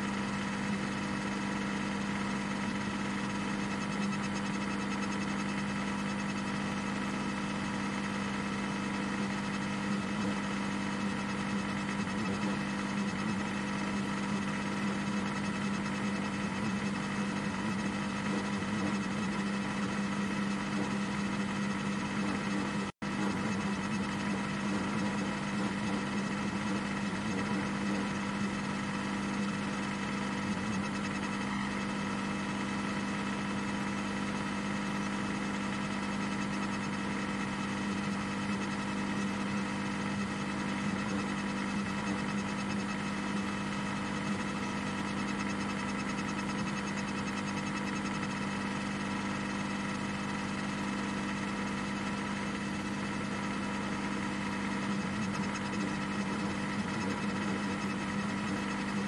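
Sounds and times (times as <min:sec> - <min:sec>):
race car engine steady pitch: 0:00.0 - 0:59.0.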